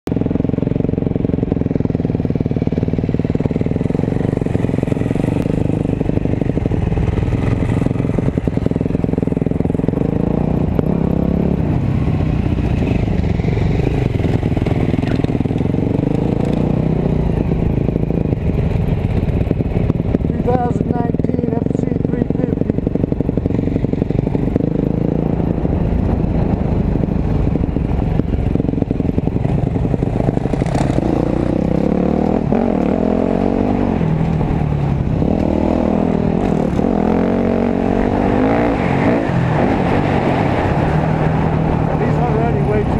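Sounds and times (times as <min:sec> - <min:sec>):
dirt bike engines running: 0:00.1 - 0:42.9.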